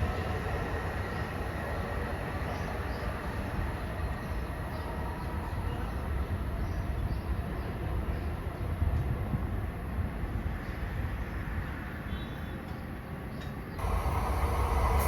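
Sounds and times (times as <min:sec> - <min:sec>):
train wheels rumbling on rails: 0:00.0 - 0:12.0, 0:12.7 - 0:15.0.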